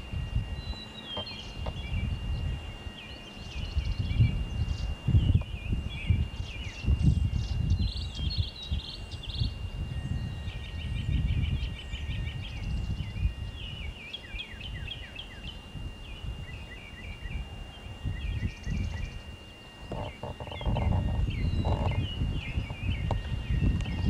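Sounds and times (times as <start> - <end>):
songbirds chirping and trilling: 0.0 - 24.0
thin high whine: 0.0 - 24.0
wind rumbling on microphone: 0.0 - 24.0.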